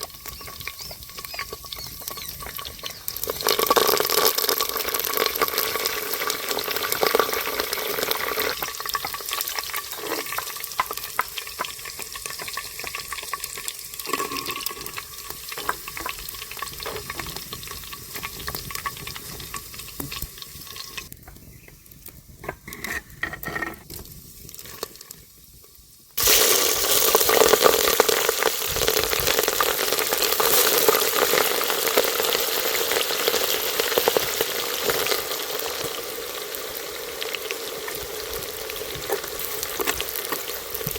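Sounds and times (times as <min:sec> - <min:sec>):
food sizzling in hot oil: 0:00.0 - 0:23.2, 0:23.8 - 0:40.9.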